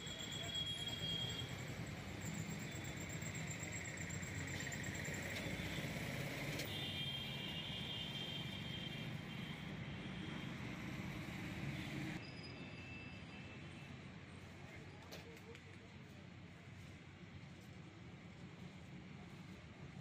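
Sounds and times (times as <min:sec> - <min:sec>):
vehicle engine and traffic noise: 0:00.0 - 0:20.0.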